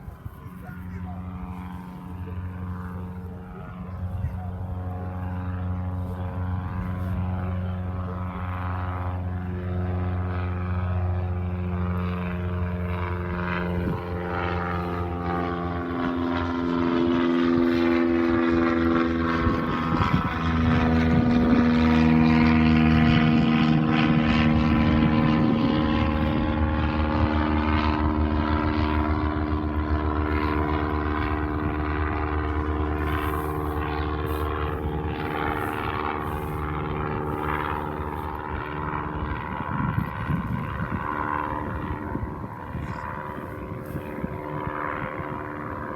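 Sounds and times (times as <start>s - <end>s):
propeller airplane engine drone: 0.0s - 45.9s.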